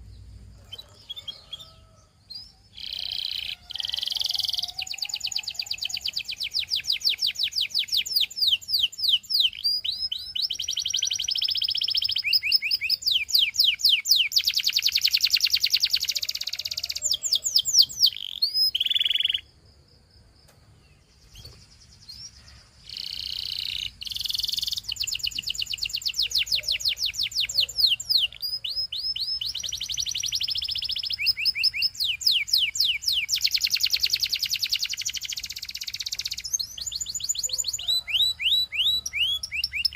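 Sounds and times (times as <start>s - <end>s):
canary singing trills: 0.0s - 19.5s, 21.0s - 39.9s.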